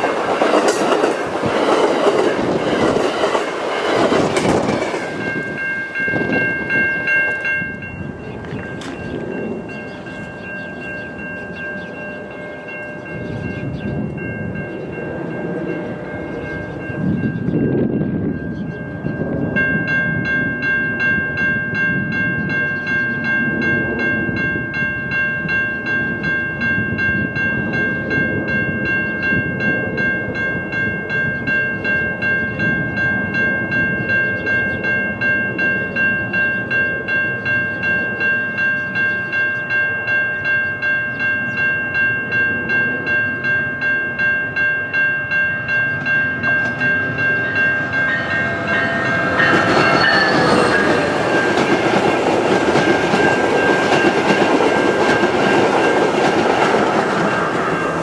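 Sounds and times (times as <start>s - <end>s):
crossing bell ringing: 0.0s - 58.0s
train rumbling: 0.0s - 58.0s.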